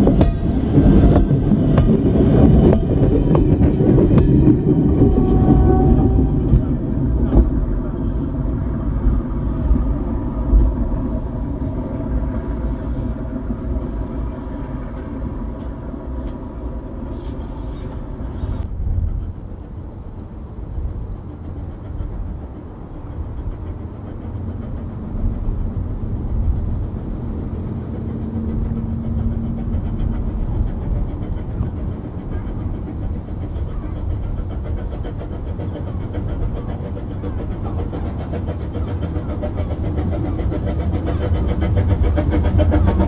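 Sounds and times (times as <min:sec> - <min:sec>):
distant steam locomotive rumble: 0:00.0 - 0:43.0
goods train rumbling on rails: 0:00.0 - 0:43.0.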